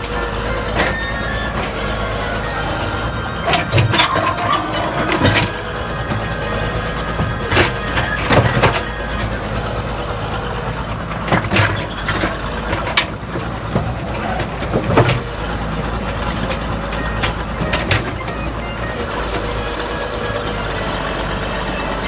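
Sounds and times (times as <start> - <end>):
toy truck engine rumble: 0.0 - 22.0.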